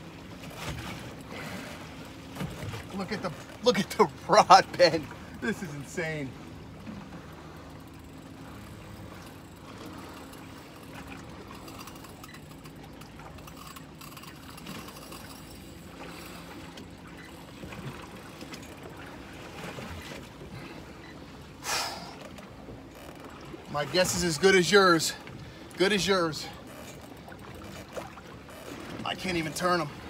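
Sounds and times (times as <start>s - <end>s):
low engine hum: 0.0s - 30.0s
water rush: 0.0s - 30.0s
water sloshing against hull: 0.0s - 30.0s.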